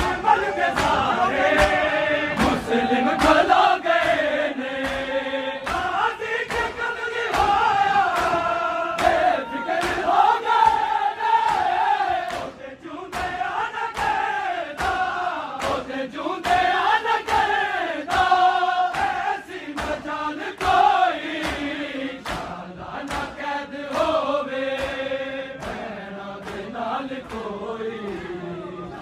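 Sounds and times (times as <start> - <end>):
men chanting a lament: 0.0 - 29.0
sharp rhythmic beats: 0.0 - 29.0.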